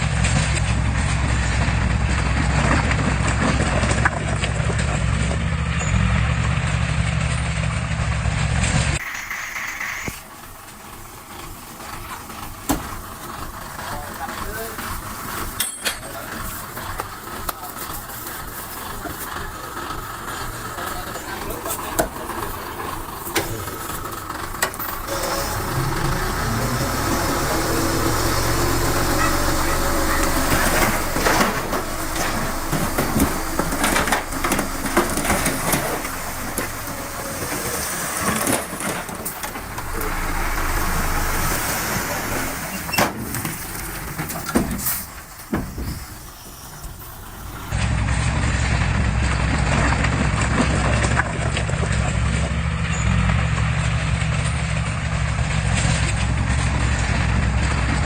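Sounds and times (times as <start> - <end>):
heavy diesel engines running: 0.0 - 58.0
low engine drone: 0.0 - 58.0.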